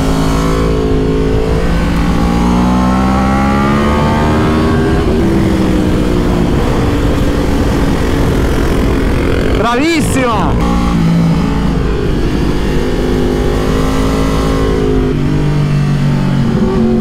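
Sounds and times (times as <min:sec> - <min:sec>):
motorcycle engine accelerating: 0:00.0 - 0:17.0
wind rushing past: 0:00.3 - 0:16.8.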